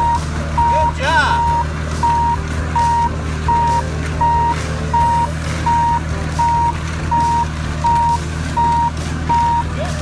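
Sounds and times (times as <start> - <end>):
short reversing beeps: 0.0 - 9.7.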